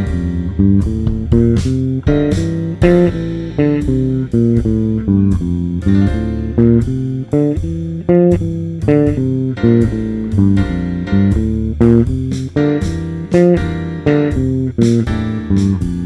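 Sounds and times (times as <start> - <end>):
electric bass plucked notes: 0.0 - 16.0.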